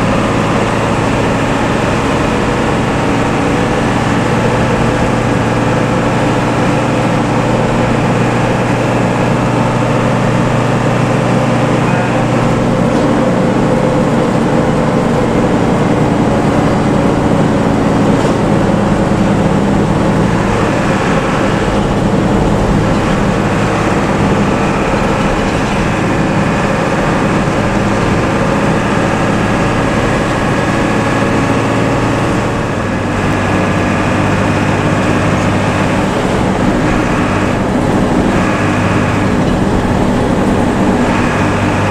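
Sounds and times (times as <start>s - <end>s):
bus diesel engine droning: 0.0s - 41.9s
road and traffic noise: 0.0s - 41.9s.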